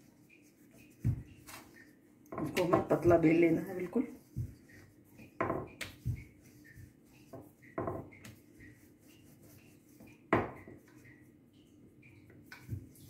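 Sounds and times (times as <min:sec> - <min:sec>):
rolling pin rubbing dough: 0:00.0 - 0:11.3.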